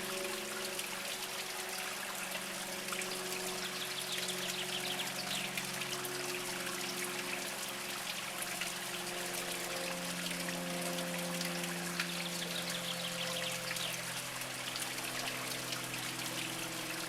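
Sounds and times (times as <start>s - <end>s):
spring water trickling over rocks: 0.0s - 17.0s.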